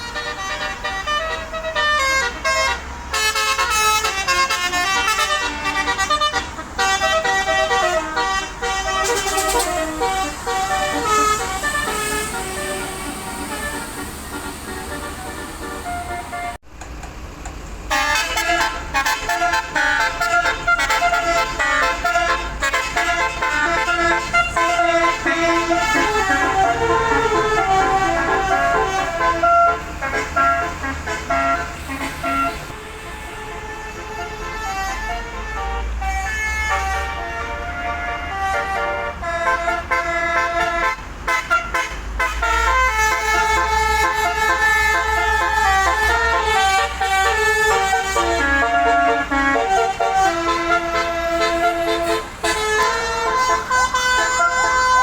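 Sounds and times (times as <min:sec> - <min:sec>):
multi-tone bus air horn melody: 0:00.0 - 0:16.7, 0:17.9 - 0:55.0
low engine rumble: 0:00.0 - 0:55.0.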